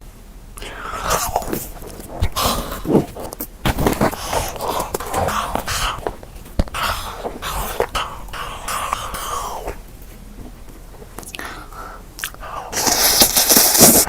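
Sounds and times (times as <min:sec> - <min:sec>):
biting and chewing: 0:00.6 - 0:14.0.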